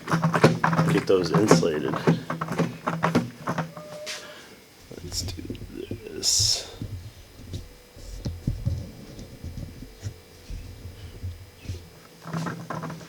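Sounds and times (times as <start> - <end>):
thumps of plastic bucket: 0.0 - 3.8, 4.8 - 13.0
faint steady hum: 0.0 - 13.0
scraping rub: 0.0 - 13.0.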